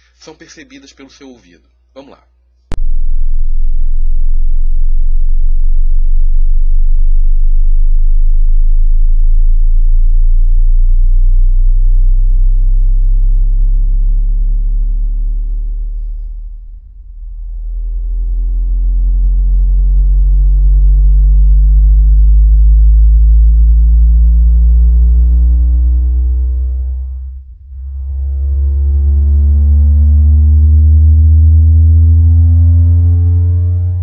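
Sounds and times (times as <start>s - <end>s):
rising sine test tone: 2.6s - 34.0s.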